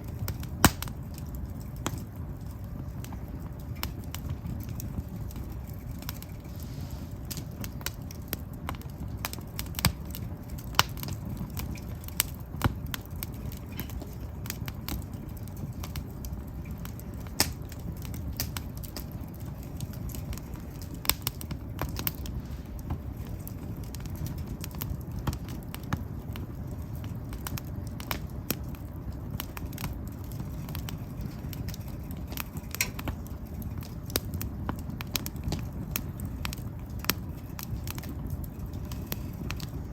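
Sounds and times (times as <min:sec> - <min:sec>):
firewood crackling and popping: 0:00.0 - 0:39.9
wood fire burning: 0:00.0 - 0:39.9.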